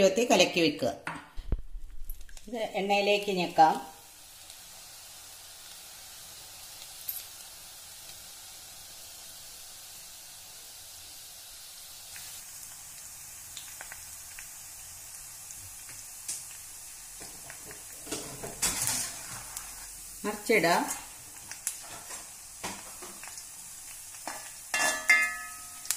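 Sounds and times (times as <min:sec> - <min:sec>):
dough deep-frying in oil: 0:01.4 - 0:25.9.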